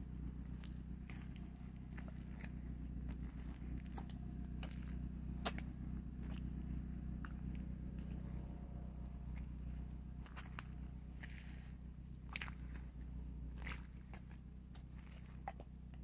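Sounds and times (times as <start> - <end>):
footsteps squelching in wet mud: 0.0 - 16.0
low hum: 0.0 - 16.0.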